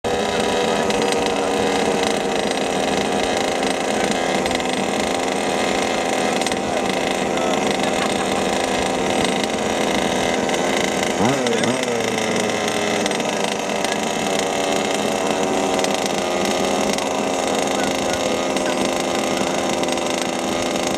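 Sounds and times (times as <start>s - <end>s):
small two-stroke engines idling: 0.0s - 20.9s.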